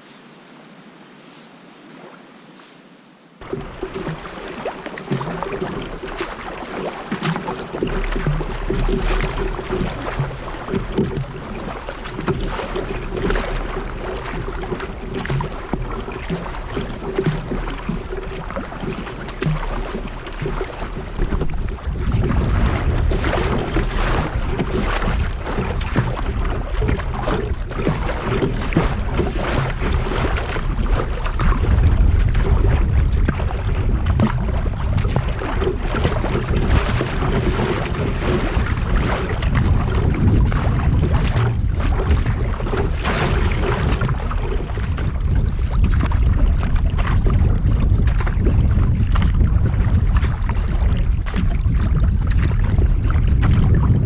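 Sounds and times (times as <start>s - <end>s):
water splashing against kayak: 0.0s - 54.0s
wind buffeting microphone: 7.2s - 54.0s.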